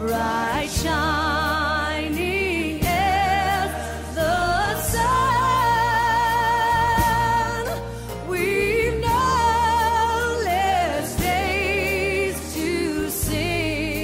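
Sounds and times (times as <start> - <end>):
low musical accompaniment: 0.0 - 14.0
person singing with vibrato: 0.0 - 14.0.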